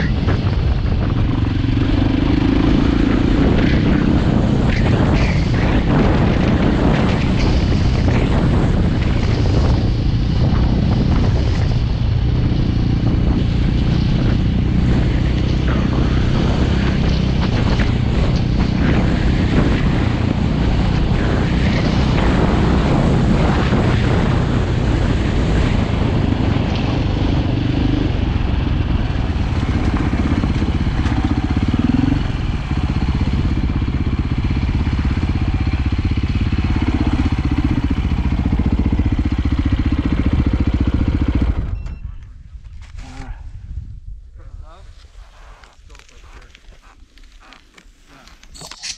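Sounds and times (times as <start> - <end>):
dirt bike engine running: 0.0 - 42.1.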